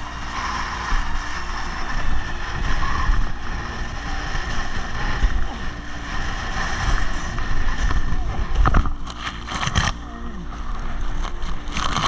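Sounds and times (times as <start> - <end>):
water rushing under a board: 0.0 - 10.0
strong wind buffeting microphone: 0.0 - 12.0.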